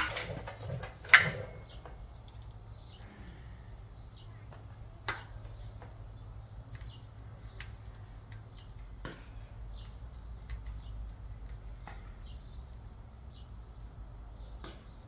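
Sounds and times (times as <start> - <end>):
small bird chirping: 0.9 - 15.0.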